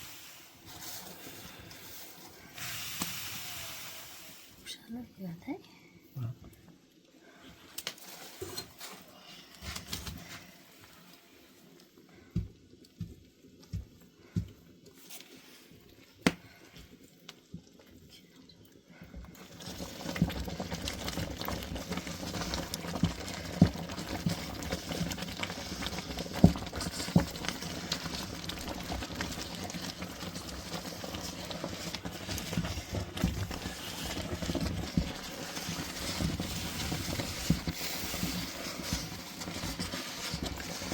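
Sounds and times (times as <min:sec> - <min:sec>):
food crackling and bubbling: 0:00.0 - 0:40.9.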